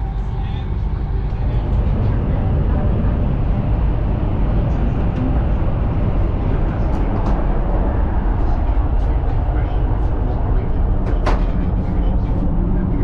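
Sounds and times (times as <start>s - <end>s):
train interior rumble and rush: 0.0s - 13.0s.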